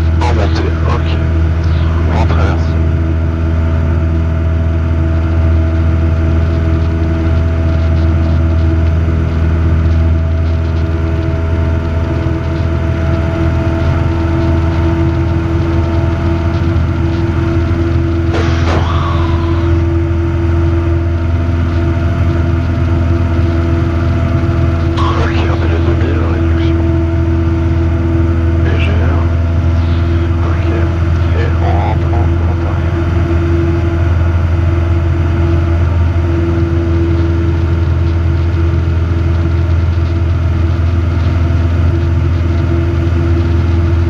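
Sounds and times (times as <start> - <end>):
aircraft engine and propeller droning: 0.0 - 44.0.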